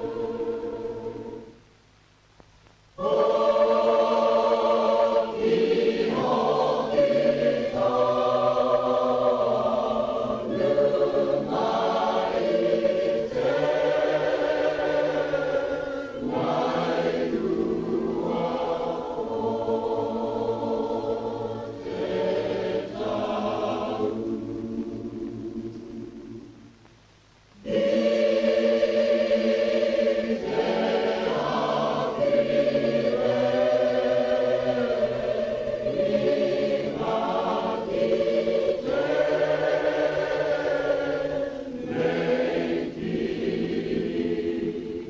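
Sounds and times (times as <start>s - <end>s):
choir singing held chords: 0.0s - 2.2s, 2.9s - 45.0s.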